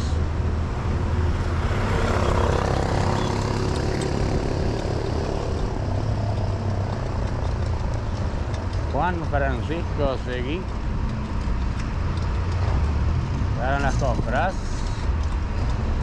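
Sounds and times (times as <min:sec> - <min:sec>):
motor vehicle engines running: 0:00.0 - 0:16.0.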